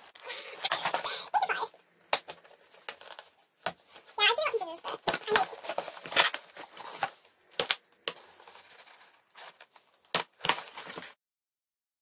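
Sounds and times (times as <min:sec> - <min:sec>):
cardboard and paper crackling: 0:00.0 - 0:11.2.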